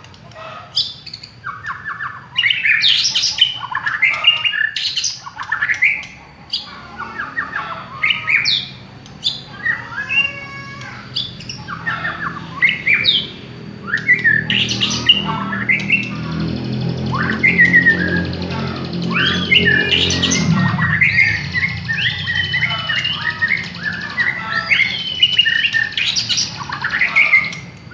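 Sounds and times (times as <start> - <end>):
songbird singing whistles and rattles: 0.0 - 27.9.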